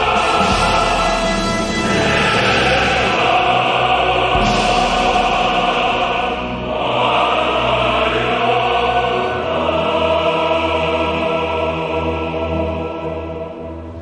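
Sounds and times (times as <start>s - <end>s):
choir singing: 0.0s - 14.0s
orchestral accompaniment: 0.0s - 14.0s.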